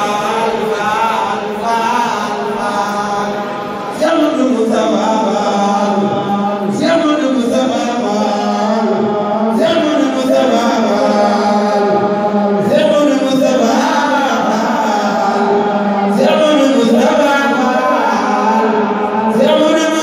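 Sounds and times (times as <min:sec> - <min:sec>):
man chanting through loudspeakers: 0:00.0 - 0:20.0.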